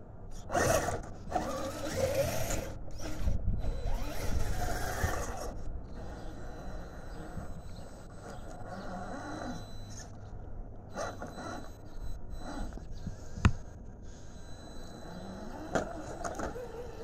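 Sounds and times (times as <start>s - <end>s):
electric motor and gears whirring: 0.0s - 17.0s.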